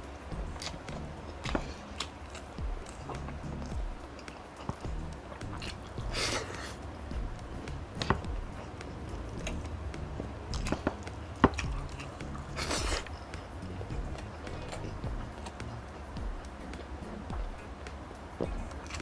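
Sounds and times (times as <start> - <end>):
chewing and mouth smacks: 0.3 - 19.0.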